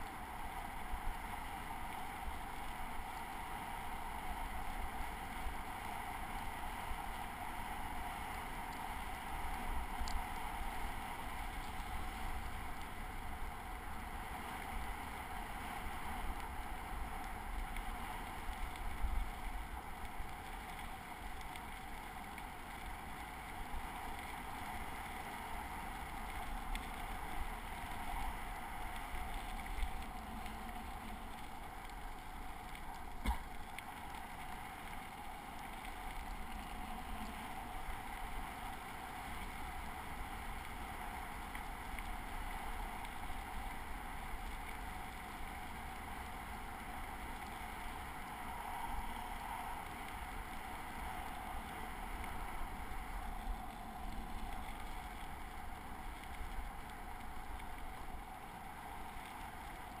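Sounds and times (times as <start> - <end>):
bicycle tyres rolling on gravel: 0.0 - 60.0.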